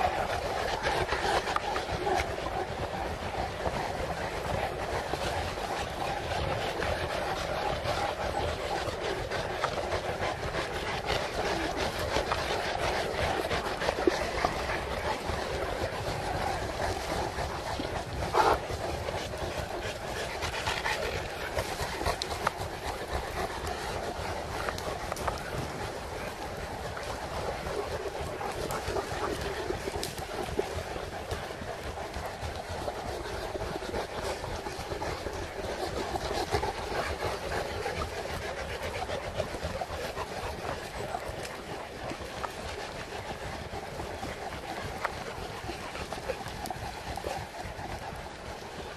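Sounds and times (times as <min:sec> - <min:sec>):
dogs panting: 0:00.0 - 0:48.9
steady outdoor noise: 0:00.0 - 0:48.9.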